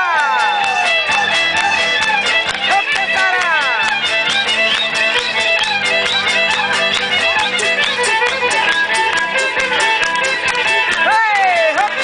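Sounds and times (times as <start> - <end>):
rhythmic accompaniment: 0.0 - 12.0
violin playing fast melody: 0.0 - 12.0.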